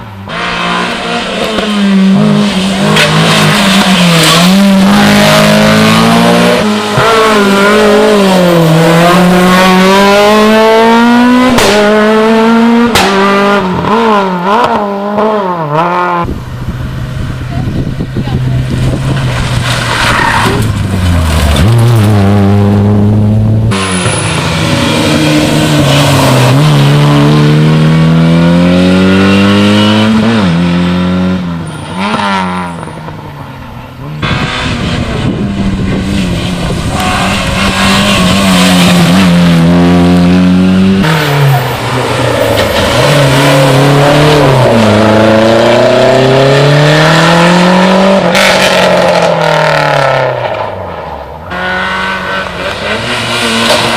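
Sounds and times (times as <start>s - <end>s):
rally car engines passing: 0.0s - 53.9s.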